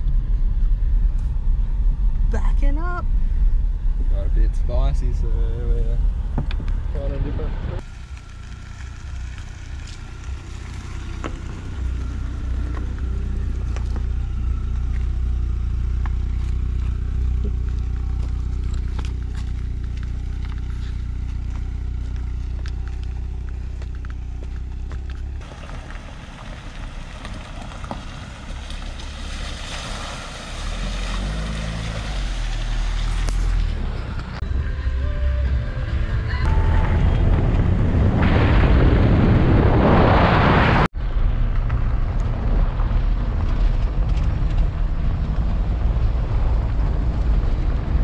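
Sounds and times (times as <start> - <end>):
gravel clicking under tyres: 0.0 - 34.6, 41.0 - 48.0
car engine rumble: 0.0 - 48.0.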